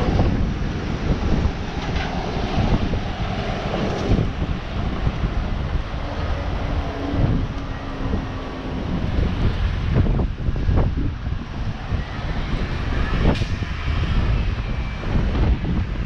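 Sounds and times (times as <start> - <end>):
steady outdoor noise: 0.0 - 16.0
wind buffeting microphone: 0.0 - 16.0.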